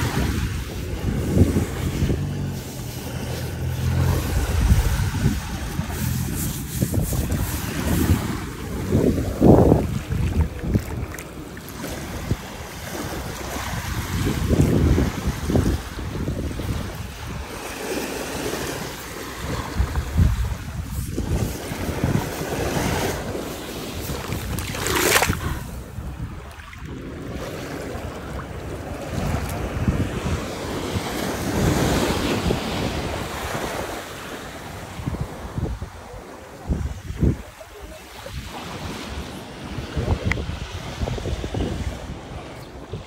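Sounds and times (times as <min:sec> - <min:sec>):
surf washing over sand: 0:00.0 - 0:43.0
wind buffeting microphone: 0:00.0 - 0:43.0.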